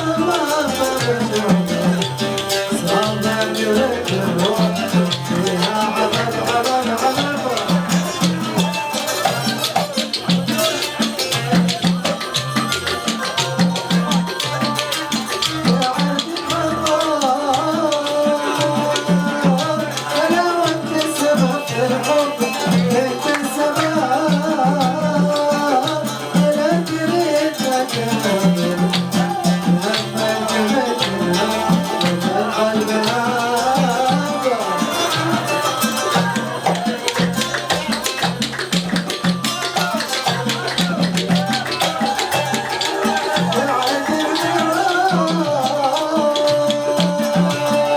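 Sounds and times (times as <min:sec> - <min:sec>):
shaken rattle percussion: 0:00.0 - 0:47.9
steady drum rhythm: 0:00.0 - 0:47.9.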